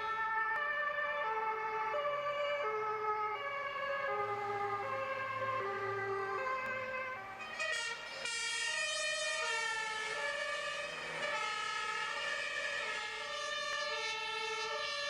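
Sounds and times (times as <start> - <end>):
two-tone fire engine siren: 0.0 - 15.0.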